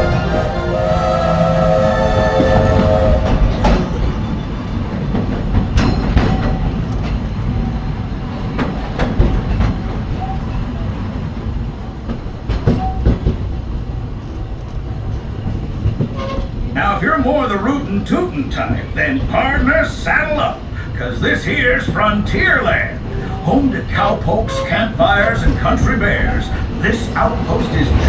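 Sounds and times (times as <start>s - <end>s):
steam train rumble: 0.0s - 28.0s
wheels clacking over rail joints: 2.2s - 28.0s.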